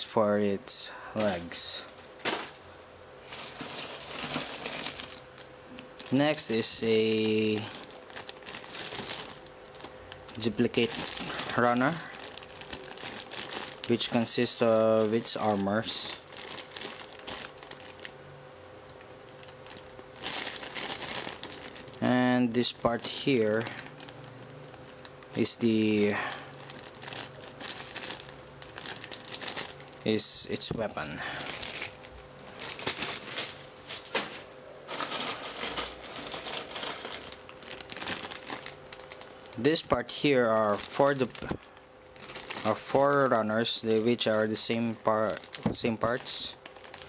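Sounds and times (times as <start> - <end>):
plastic bag crinkling: 3.2 - 18.2, 18.9 - 47.0.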